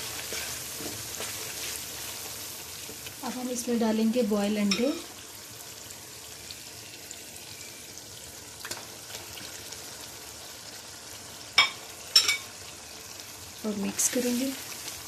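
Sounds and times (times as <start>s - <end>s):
masala sizzling in a wok: 0.0s - 15.0s.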